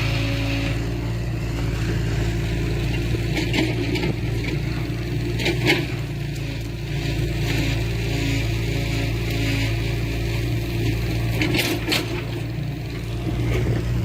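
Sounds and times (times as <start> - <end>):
heavy machinery diesel engine: 0.0 - 14.0.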